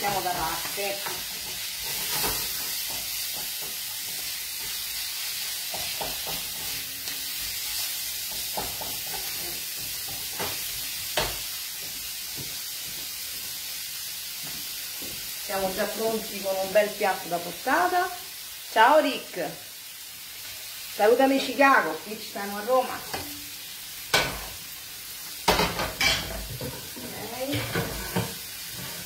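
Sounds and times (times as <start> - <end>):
vegetables sizzling in a frying pan: 0.0 - 29.0.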